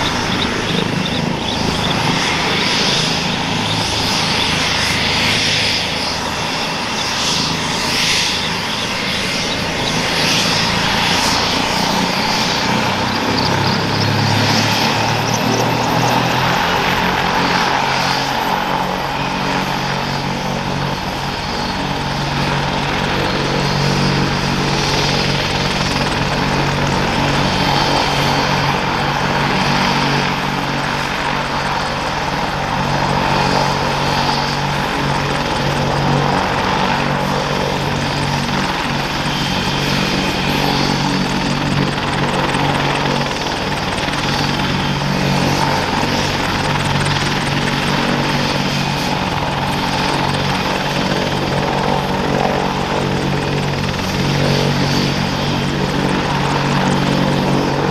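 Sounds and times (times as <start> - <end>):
helicopter running on the ground: 0.0 - 57.9.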